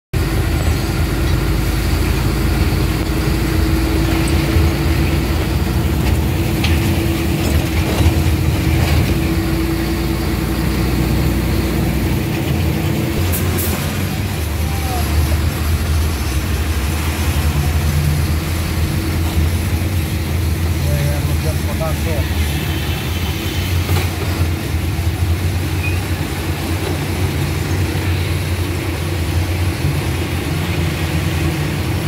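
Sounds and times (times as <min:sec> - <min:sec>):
vehicle engine and road rumble: 0:00.1 - 0:32.0.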